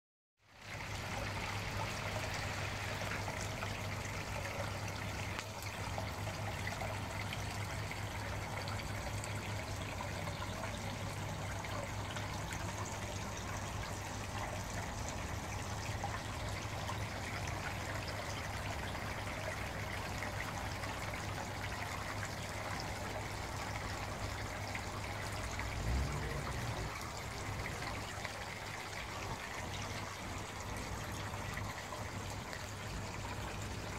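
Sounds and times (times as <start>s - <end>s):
water trickling into pond: 0.4s - 33.9s
low steady hum: 0.6s - 33.9s.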